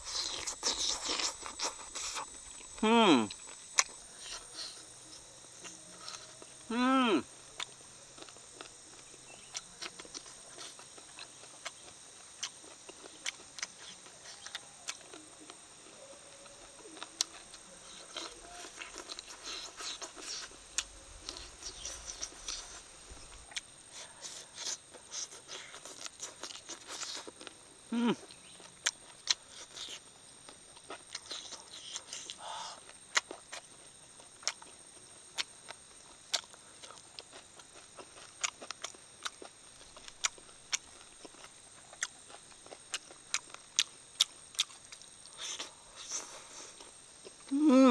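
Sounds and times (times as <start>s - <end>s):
man chewing wet food: 0.0s - 6.8s, 7.4s - 47.9s
crunchy chewing: 0.0s - 47.9s.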